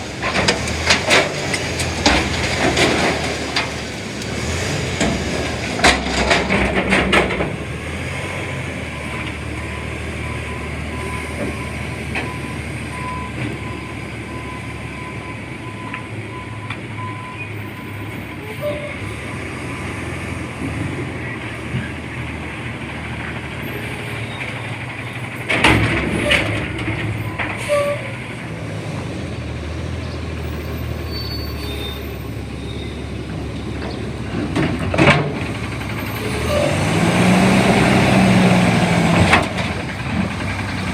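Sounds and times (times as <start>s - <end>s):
garbage truck engine running: 0.0s - 17.0s, 18.6s - 40.9s.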